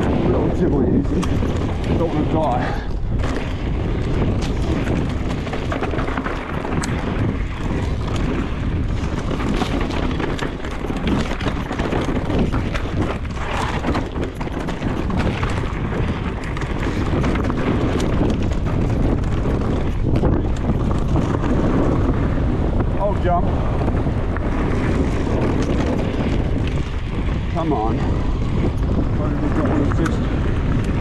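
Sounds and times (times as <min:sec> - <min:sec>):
bike rattling and clicking: 0:00.0 - 0:31.0
tyres rumbling on dirt: 0:00.0 - 0:31.0
wind buffeting microphone: 0:00.0 - 0:31.0.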